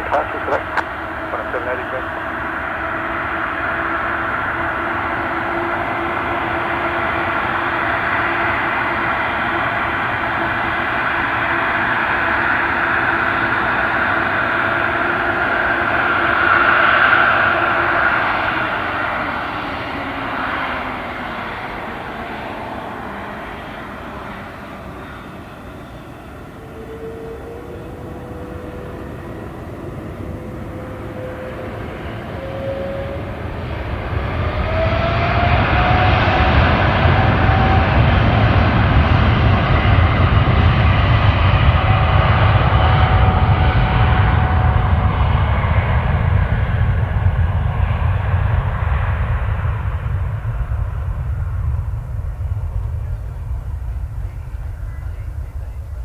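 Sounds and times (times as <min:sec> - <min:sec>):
jet airliner engines on takeoff: 0:00.0 - 0:56.0.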